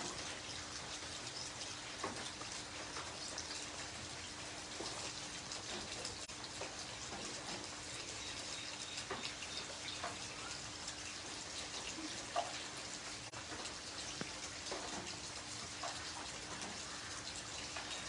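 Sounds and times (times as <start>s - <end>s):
rain on wet concrete: 0.0s - 18.0s
raindrops splashing: 0.0s - 18.0s.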